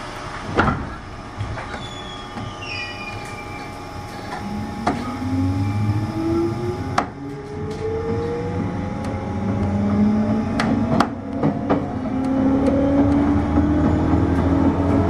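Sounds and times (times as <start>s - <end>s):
traction motor whine rising: 0.0s - 15.0s
train rumble: 0.0s - 15.0s.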